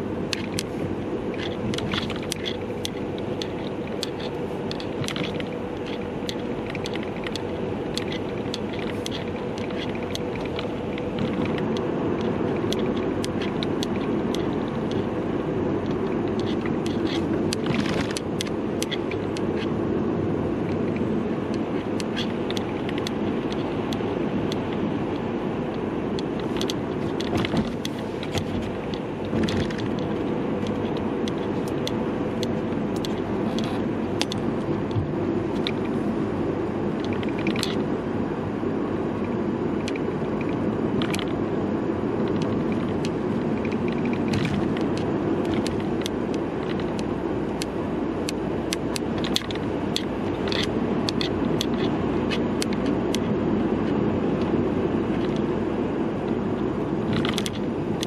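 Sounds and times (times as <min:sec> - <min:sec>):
car road noise: 0:00.0 - 0:58.0
strap clicking and rattling: 0:00.2 - 0:19.8, 0:20.6 - 0:36.2, 0:36.9 - 0:37.9, 0:39.8 - 0:41.4, 0:42.2 - 0:53.3, 0:57.0 - 0:58.0.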